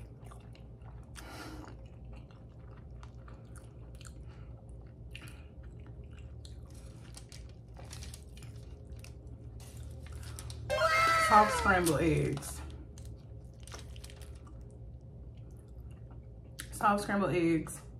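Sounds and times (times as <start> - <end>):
wet chewing sounds: 0.0 - 10.6, 12.9 - 16.8.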